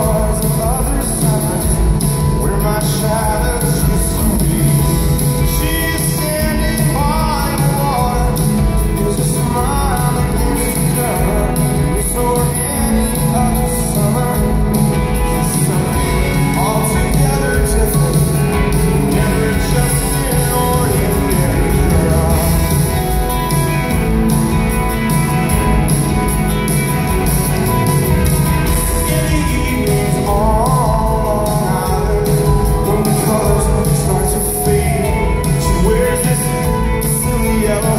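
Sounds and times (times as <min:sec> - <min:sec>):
man singing: 0:00.0 - 0:24.4, 0:27.4 - 0:37.9
rock band playing live: 0:00.0 - 0:37.9.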